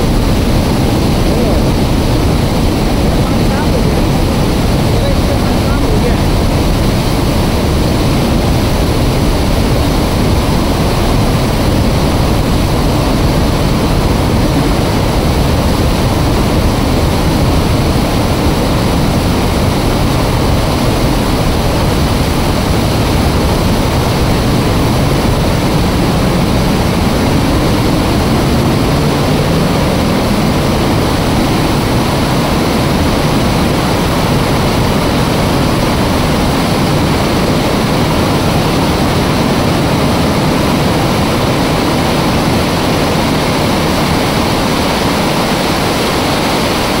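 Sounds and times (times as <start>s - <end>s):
water rushing through spillway: 0.0s - 47.0s.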